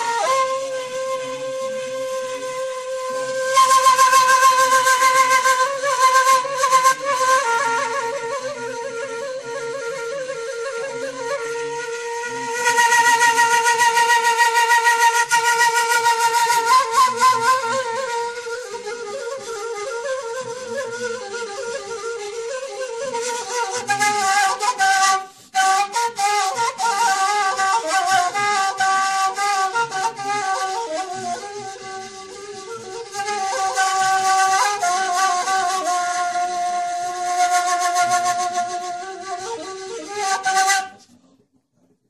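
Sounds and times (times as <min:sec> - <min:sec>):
solo flute melody: 0:00.0 - 0:41.4.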